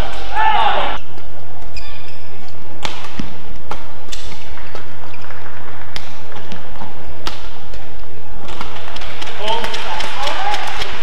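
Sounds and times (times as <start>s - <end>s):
rackets hitting shuttlecock: 1.0s - 11.0s.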